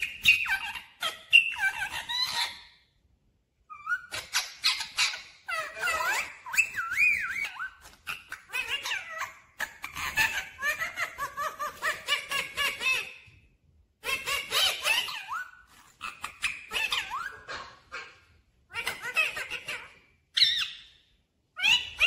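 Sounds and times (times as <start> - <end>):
parakeet chattering: 0.0 - 2.7, 3.7 - 13.1, 14.0 - 21.0.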